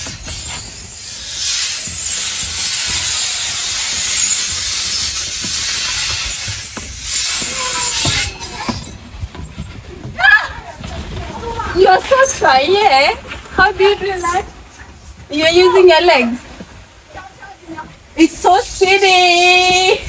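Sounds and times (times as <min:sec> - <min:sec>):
rider sliding down tunnel slide: 0:00.0 - 0:17.9.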